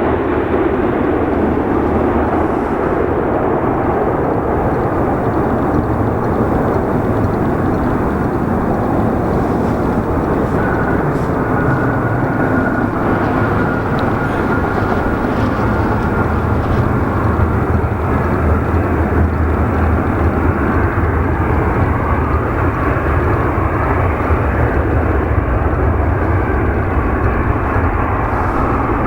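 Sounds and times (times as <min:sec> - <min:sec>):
jet engines roaring at takeoff: 0:00.0 - 0:29.0.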